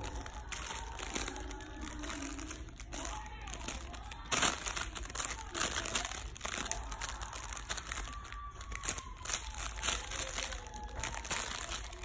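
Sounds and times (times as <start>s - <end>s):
plush toy crinkling: 0.0s - 12.0s.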